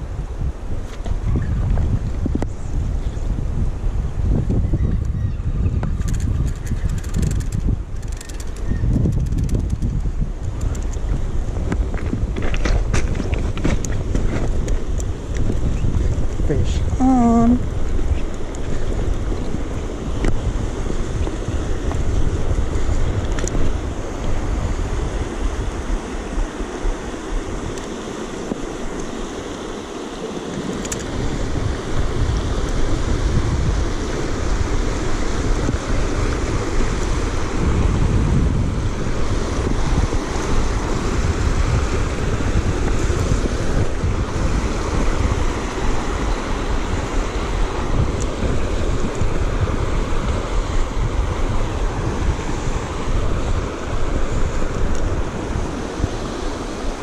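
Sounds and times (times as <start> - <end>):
wind buffeting microphone: 0.0 - 57.0
shallow river rushing: 6.3 - 57.0.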